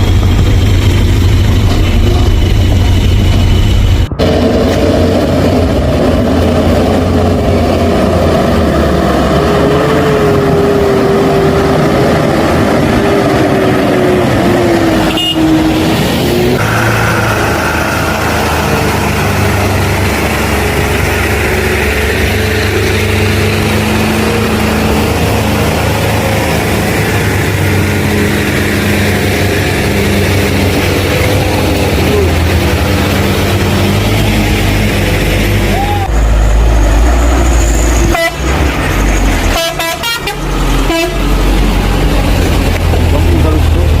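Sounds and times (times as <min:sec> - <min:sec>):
heavy truck engine running: 0:00.0 - 0:44.0.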